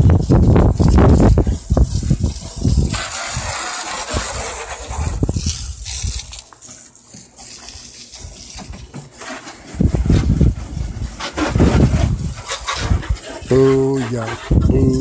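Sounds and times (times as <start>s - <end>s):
water spray hissing: 0.0s - 15.0s.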